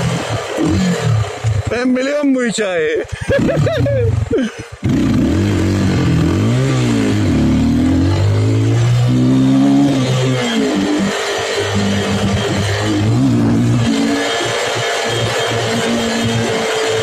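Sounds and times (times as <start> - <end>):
motorcycle engine revving: 0.0 - 2.0, 3.0 - 17.0.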